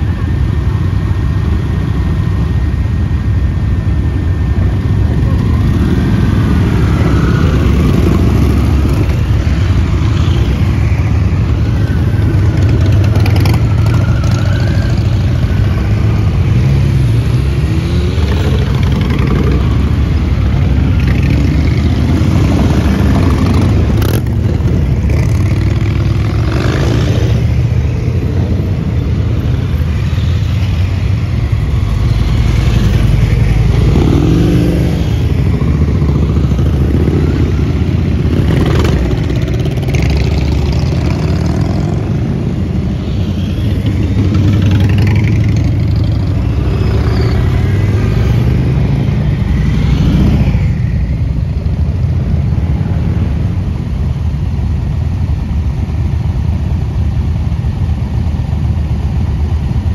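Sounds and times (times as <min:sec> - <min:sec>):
motorcycles riding past: 0:00.0 - 0:53.9
motorcycle revving: 0:00.0 - 0:59.9.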